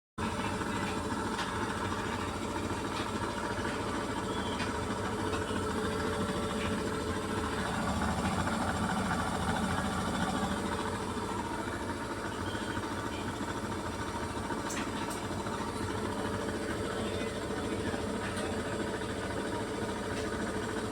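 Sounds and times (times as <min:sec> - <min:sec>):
washing machine drum spinning: 0:00.2 - 0:20.9.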